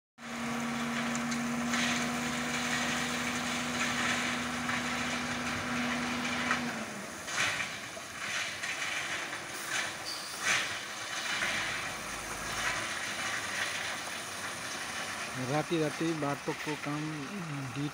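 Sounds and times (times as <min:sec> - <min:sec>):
dump truck engine humming: 0:00.2 - 0:17.9
rough background noise: 0:00.8 - 0:17.9.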